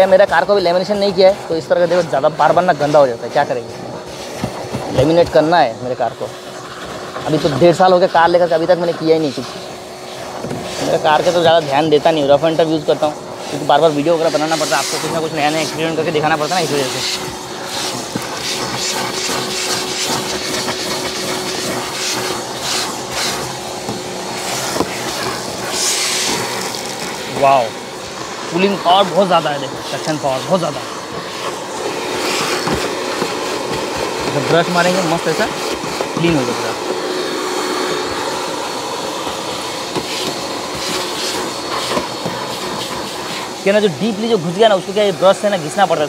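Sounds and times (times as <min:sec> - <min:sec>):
vacuum cleaner sucking air: 0:00.0 - 0:46.0.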